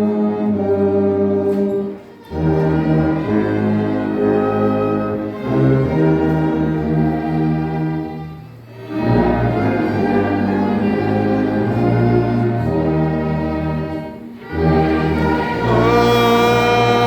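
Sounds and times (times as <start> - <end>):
instrumental hymn by ensemble: 0.0 - 17.0
tuba: 0.0 - 17.0.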